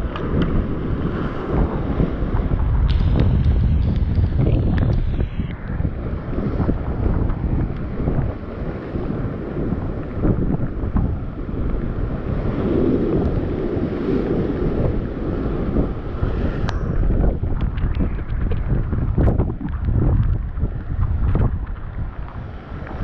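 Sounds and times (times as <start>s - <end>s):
sea waves on rocks: 0.0s - 23.0s
wind buffeting microphone: 0.0s - 23.0s.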